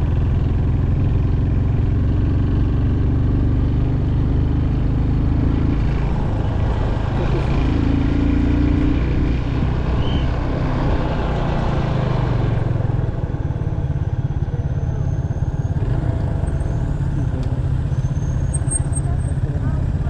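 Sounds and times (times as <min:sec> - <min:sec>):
motorcycle engine and road noise: 0:00.0 - 0:20.0.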